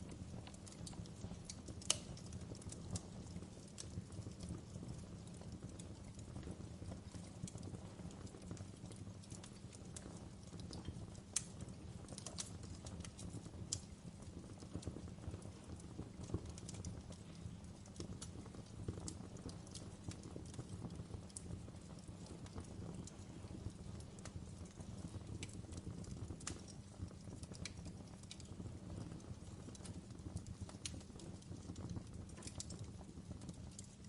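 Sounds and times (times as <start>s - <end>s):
burning wood crackling: 0.0s - 34.0s
campfire flames rumbling: 0.0s - 34.0s.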